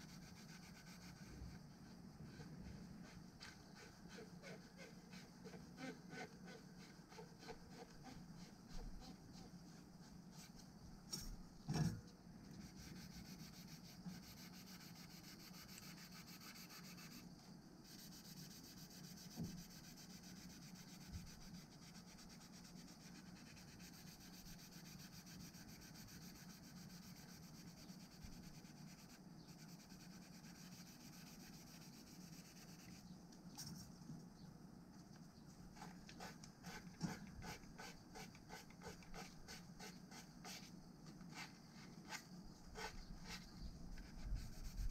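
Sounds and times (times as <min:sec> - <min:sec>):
brush rubbing back and forth: 0:00.0 - 0:10.7, 0:12.6 - 0:33.2, 0:35.7 - 0:44.9
steady low hum: 0:00.0 - 0:44.9.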